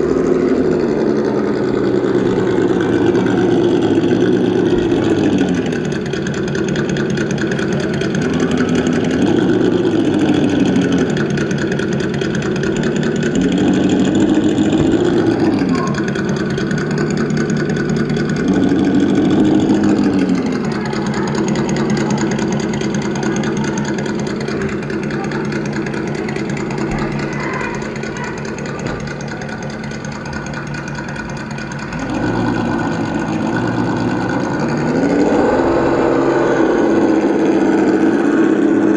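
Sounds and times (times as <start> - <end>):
simulated engine idling and revving: 0.0 - 38.9.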